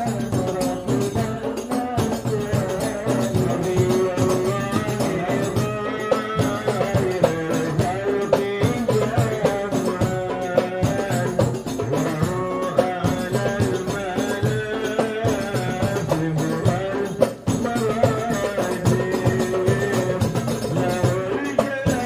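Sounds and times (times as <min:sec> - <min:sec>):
hand percussion: 0:00.0 - 0:22.0
person singing devotional song: 0:00.0 - 0:22.0
tambourine jingling: 0:00.0 - 0:22.0.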